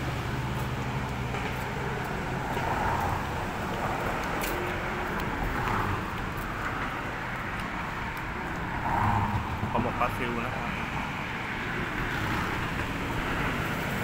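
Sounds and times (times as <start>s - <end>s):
road traffic noise: 0.0s - 14.0s
vehicles passing: 0.0s - 14.0s.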